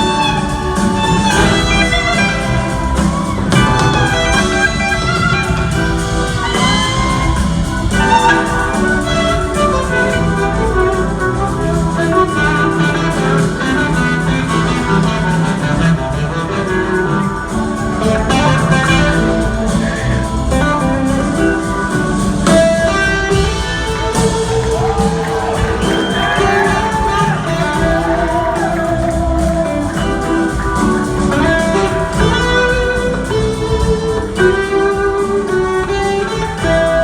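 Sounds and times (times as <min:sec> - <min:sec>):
blues-rock band playing: 0:00.0 - 0:37.0.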